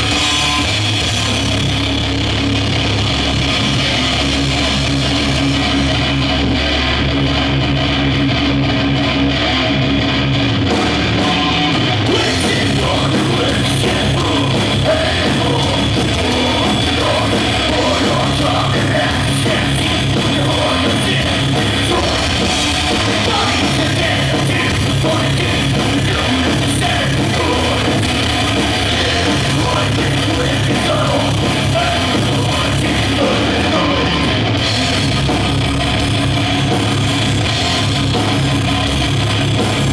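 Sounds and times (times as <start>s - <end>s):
distorted electric guitars: 0.0s - 39.9s
metal band playing: 0.0s - 39.9s.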